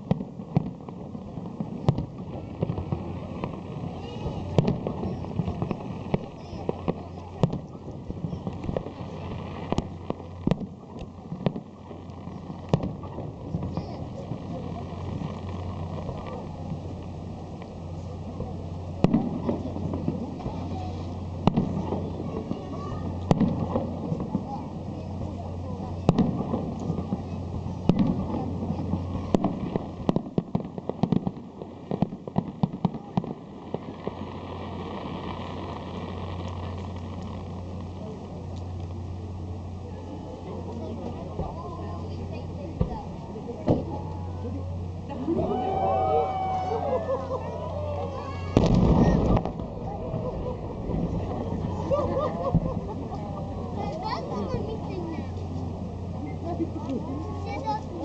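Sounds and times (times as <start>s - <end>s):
fireworks bangs: 0.0s - 38.8s, 41.2s - 44.2s, 45.3s - 53.2s
background murmur: 0.0s - 58.0s
background rumble and hum: 0.0s - 58.0s.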